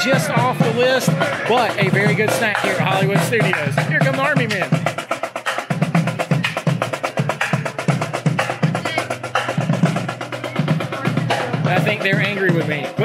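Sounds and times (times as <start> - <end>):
marching snare and bass drums: 0.0 - 13.0.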